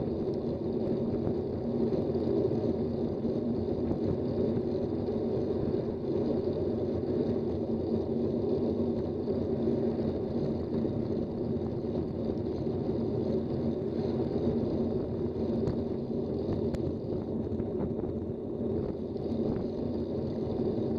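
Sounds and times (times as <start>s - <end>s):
bicycle tyre and road noise: 0.0s - 20.9s
wind buffeting microphone: 0.0s - 20.9s.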